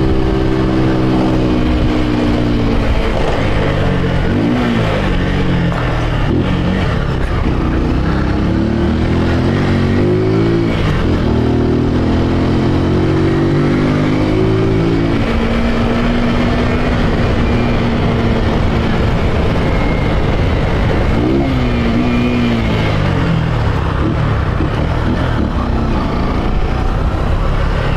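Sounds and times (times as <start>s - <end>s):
motorcycle engine accelerating: 0.0s - 27.9s.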